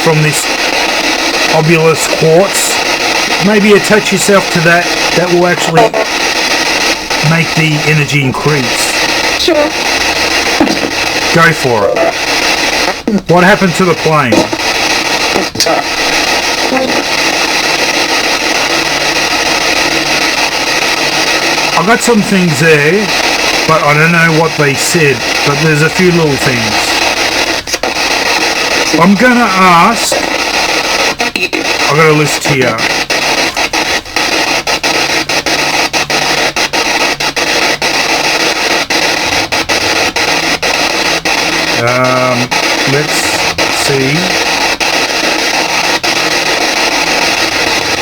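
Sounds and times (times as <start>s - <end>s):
radio static hiss: 0.0s - 48.0s.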